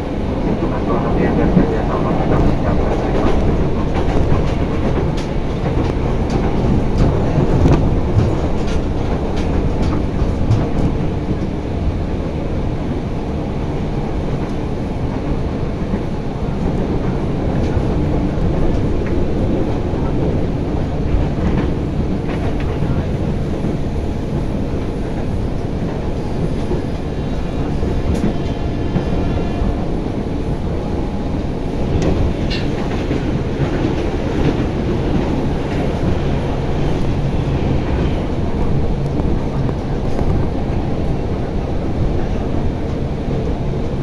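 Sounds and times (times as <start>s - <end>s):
train carriage rumble: 0.0s - 44.0s.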